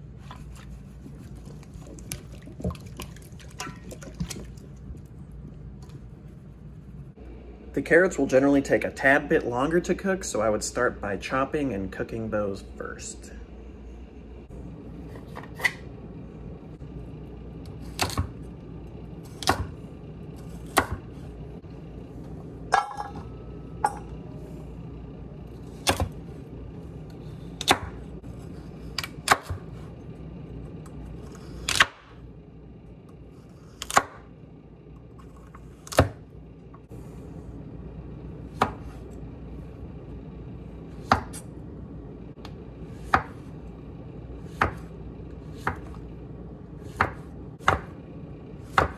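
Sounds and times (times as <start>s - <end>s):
low hum: 0.0s - 48.9s.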